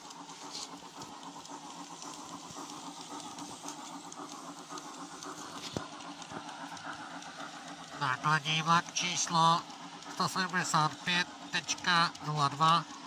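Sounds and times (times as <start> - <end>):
steam engine sounds: 0.0 - 13.0
wheels on rails: 0.0 - 13.0.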